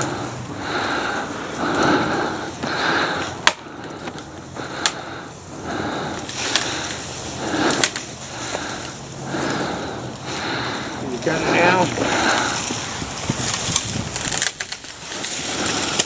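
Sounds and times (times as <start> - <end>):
wood cracking: 0.0 - 16.0.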